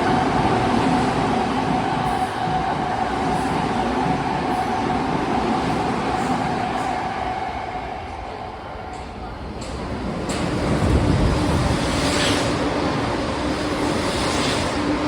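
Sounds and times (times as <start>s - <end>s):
train whine: 0.0s - 15.0s
trains rumbling on rails: 0.0s - 15.0s.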